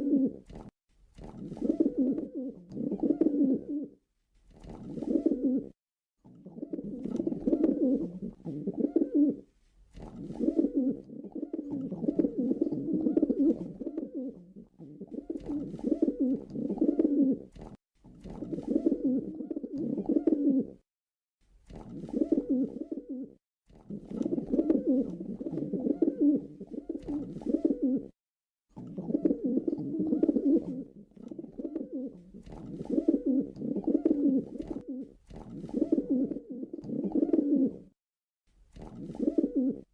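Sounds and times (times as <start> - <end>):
pigeons cooing: 0.0 - 0.5, 1.5 - 4.0, 4.8 - 5.8, 6.4 - 17.5, 18.3 - 20.8, 21.9 - 28.2, 28.8 - 37.9, 39.0 - 39.9.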